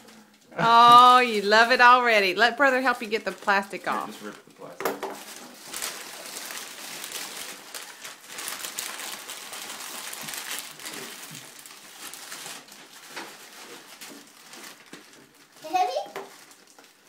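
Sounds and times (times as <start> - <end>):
plastic packaging crinkling: 1.0 - 17.0.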